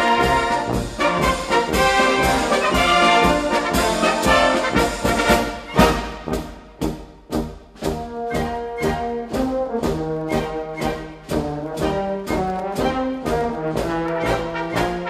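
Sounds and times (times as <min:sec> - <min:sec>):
drum and cymbal beats: 0:00.0 - 0:15.0
military band march: 0:00.0 - 0:15.0.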